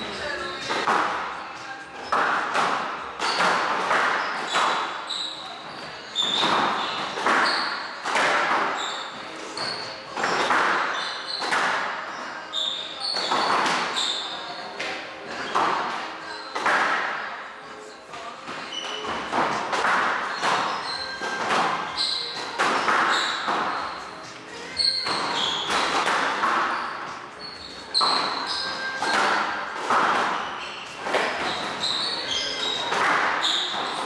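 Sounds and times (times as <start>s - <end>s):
squash ball hitting rackets and walls: 0.0s - 17.4s, 18.3s - 34.0s
shoes squeaking on wooden floor: 0.0s - 17.5s, 18.1s - 34.0s.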